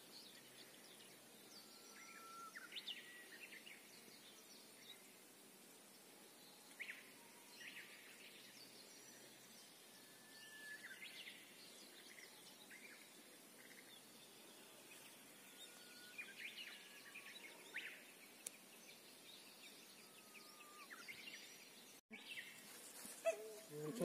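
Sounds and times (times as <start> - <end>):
low outdoor hiss: 0.0 - 24.0.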